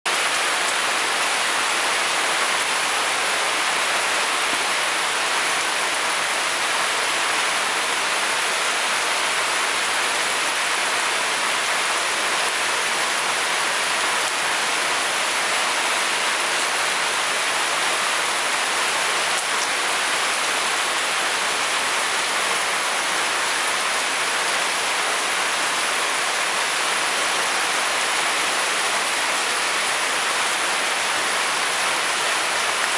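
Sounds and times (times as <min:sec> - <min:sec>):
heavy rain falling: 0:00.1 - 0:32.9.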